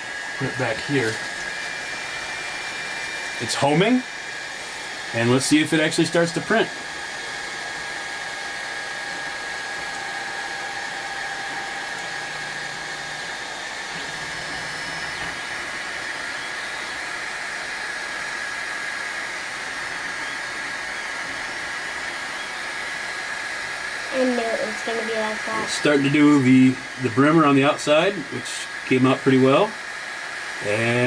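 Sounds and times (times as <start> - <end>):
cooling fans whirring with whine: 0.0 - 31.0
stepper motor hums: 0.0 - 31.0.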